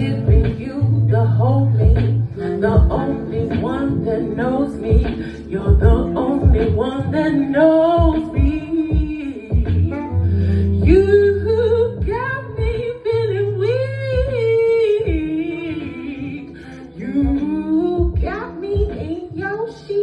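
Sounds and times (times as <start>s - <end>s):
deep bass notes: 0.0s - 19.4s
plucked guitar: 0.0s - 20.0s.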